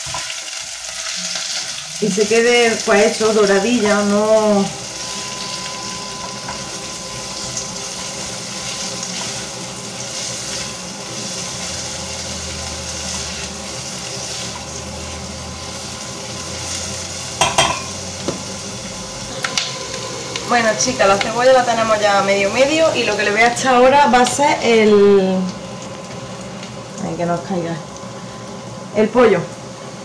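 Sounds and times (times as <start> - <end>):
onion sizzling in hot oil: 0.0 - 30.0.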